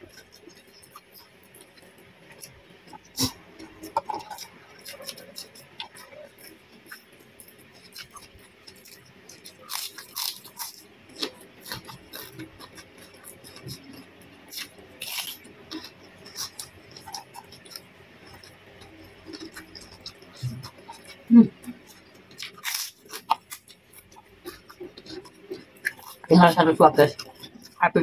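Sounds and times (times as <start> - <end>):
crunching and chewing cucumber: 0.0 - 28.0.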